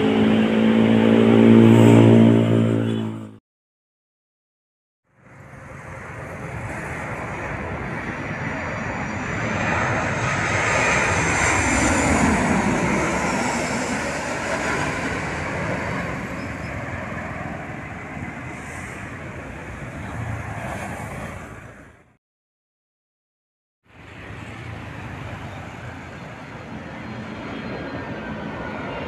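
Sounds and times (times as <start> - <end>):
jet airliner passing overhead: 0.0 - 3.4, 5.1 - 22.2, 23.9 - 29.0.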